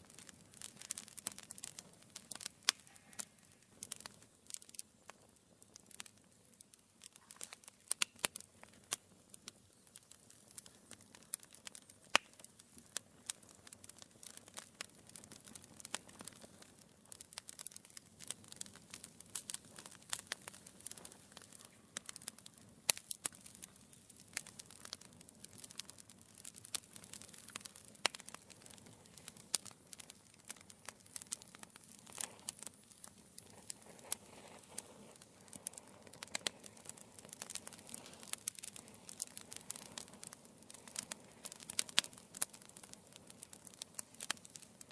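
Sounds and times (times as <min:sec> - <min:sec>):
logs crackling and popping: 0:00.0 - 0:44.9
low hiss of flame: 0:00.0 - 0:44.9.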